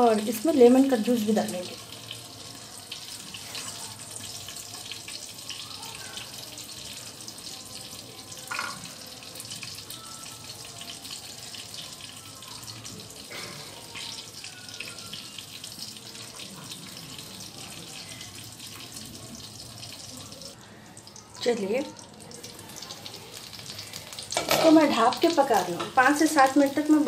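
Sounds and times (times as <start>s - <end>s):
vegetables frying in oil: 0.0s - 27.0s.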